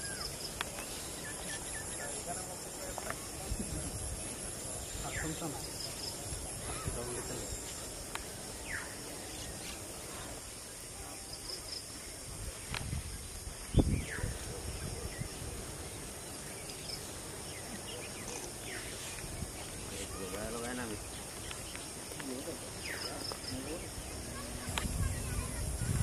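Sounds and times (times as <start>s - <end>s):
birds chirping: 0.0s - 26.0s
steady high hiss: 0.0s - 26.0s.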